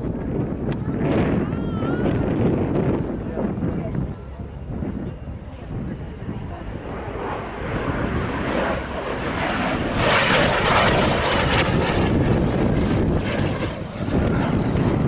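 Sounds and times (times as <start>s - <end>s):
aircraft engine flying past: 0.0s - 15.0s.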